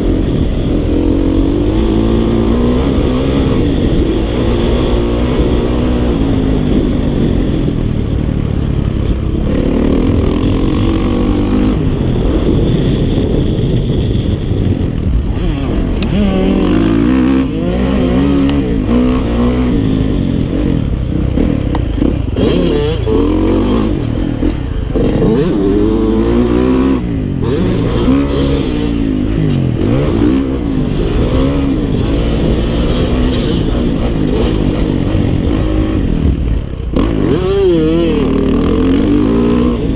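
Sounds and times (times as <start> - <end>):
dirt bike engine revving: 0.0 - 8.0, 9.0 - 13.4, 15.2 - 39.9.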